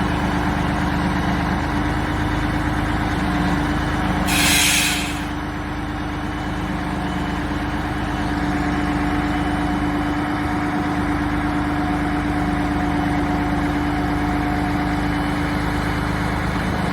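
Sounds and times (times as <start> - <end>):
truck diesel engine idling: 0.0 - 16.9.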